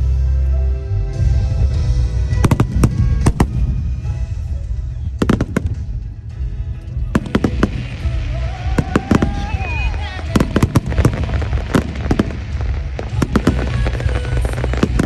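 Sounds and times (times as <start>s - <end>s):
music: 0.0s - 15.0s
fireworks bursts rumbling: 1.1s - 15.0s
fireworks crackling: 2.0s - 15.0s.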